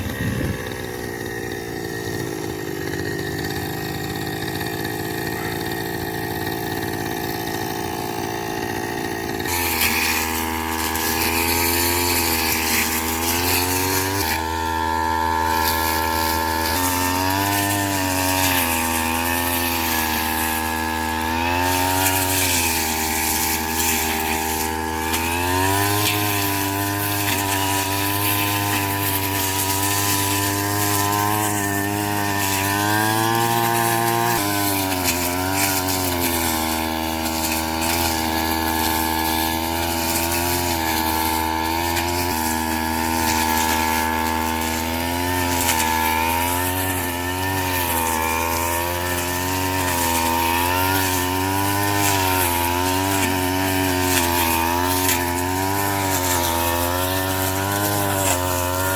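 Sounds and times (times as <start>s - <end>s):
small petrol engine running: 0.0s - 58.9s.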